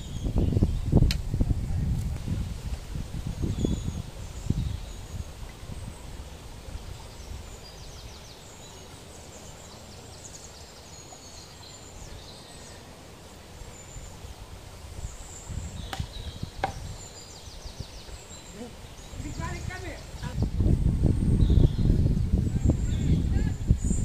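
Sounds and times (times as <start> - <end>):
small birds chirping and trilling: 0.0 - 24.0.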